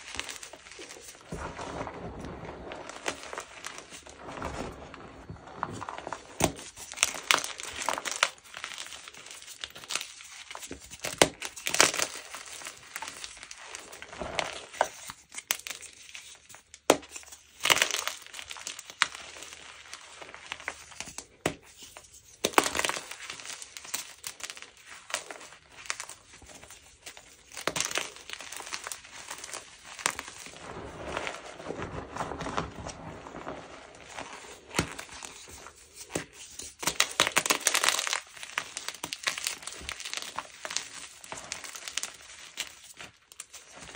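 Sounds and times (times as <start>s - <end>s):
chalk being crushed: 0.0s - 43.9s.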